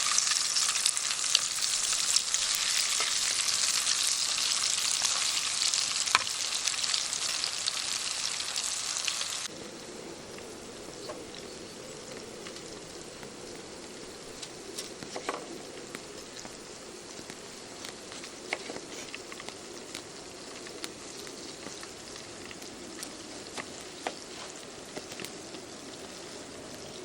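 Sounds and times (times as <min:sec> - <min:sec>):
food frying in oil: 0:00.0 - 0:09.5, 0:11.4 - 0:27.0.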